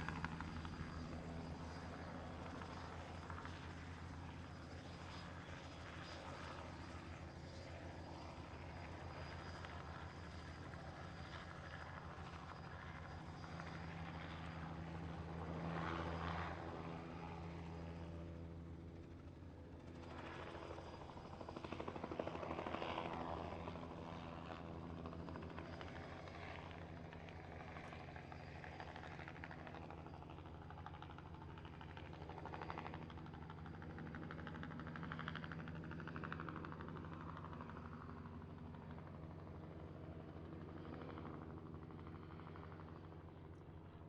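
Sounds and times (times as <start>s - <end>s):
helicopter rotor and engine: 0.0s - 44.0s.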